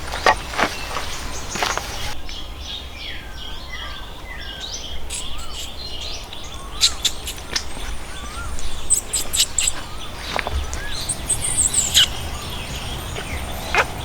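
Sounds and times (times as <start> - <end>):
birds singing whistled notes: 0.0 - 14.0.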